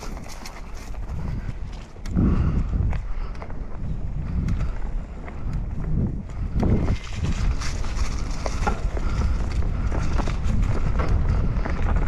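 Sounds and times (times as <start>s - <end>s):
bike clicks and rattles: 0.0s - 12.0s
bike tyres rolling on grass: 0.0s - 12.0s
wind buffeting microphone: 0.0s - 12.0s.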